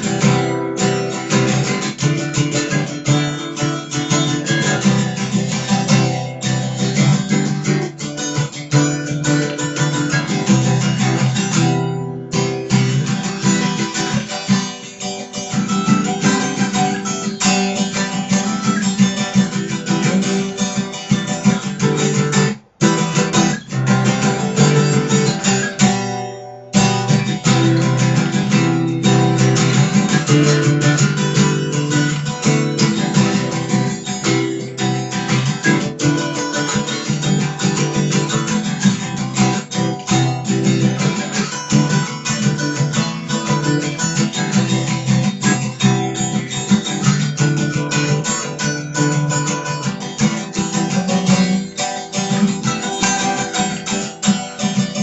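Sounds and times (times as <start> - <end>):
guitar chords and notes: 0.0 - 55.0.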